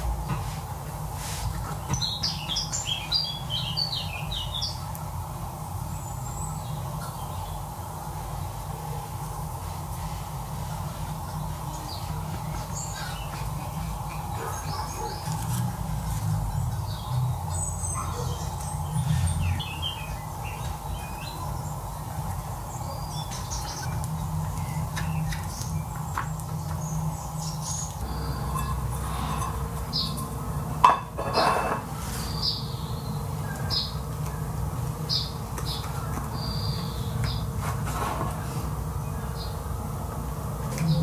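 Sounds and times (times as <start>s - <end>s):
steady low hum: 0.0s - 41.0s
small birds chirping: 1.4s - 31.2s, 31.9s - 39.8s.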